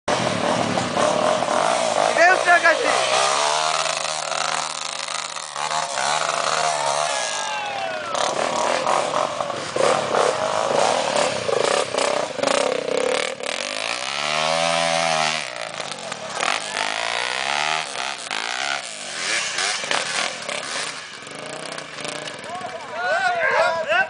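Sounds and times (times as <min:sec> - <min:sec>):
motorcycle engine revving: 0:00.1 - 0:23.0.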